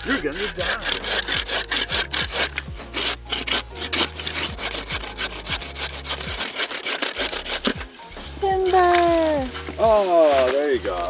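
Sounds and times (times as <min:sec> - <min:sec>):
bow saw cutting wood: 0:00.0 - 0:11.0.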